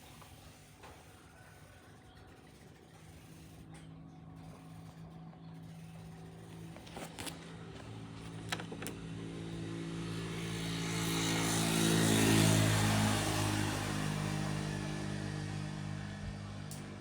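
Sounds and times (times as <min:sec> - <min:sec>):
motor vehicle passing by: 0:03.1 - 0:17.0.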